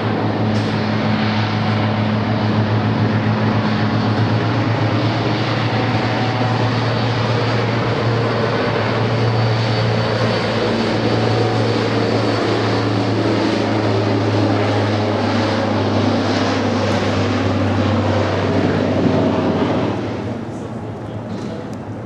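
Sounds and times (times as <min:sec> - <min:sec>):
propeller engine drone: 0:00.0 - 0:22.0.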